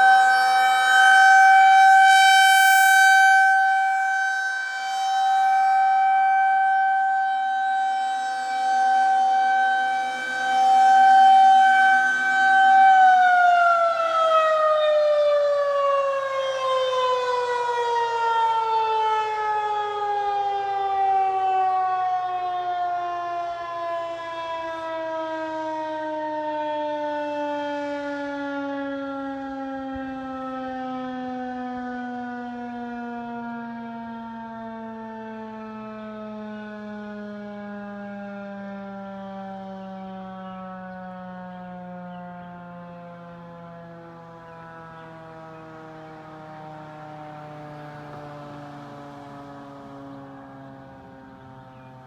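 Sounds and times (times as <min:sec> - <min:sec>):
tornado warning siren: 0:00.0 - 0:52.0.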